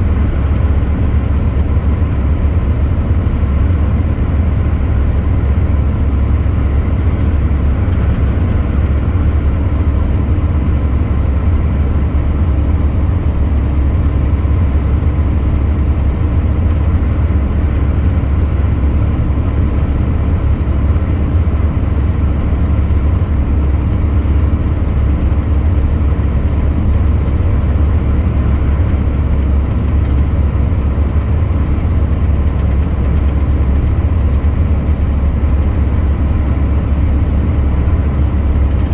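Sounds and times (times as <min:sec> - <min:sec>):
heavy truck engine drone: 0:00.0 - 0:38.9
road noise: 0:00.0 - 0:38.9.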